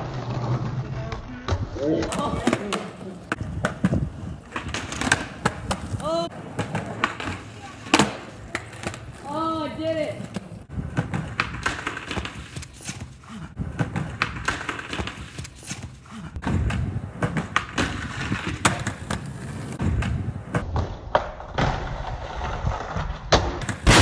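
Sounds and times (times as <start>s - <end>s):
skateboard rolling on concrete: 0.0s - 24.0s
skateboard clacking on ground: 0.5s - 24.0s.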